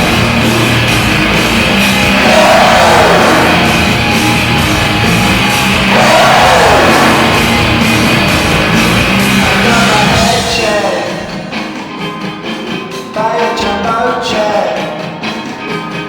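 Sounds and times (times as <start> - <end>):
hard rock music with electric guitar: 0.0 - 16.0.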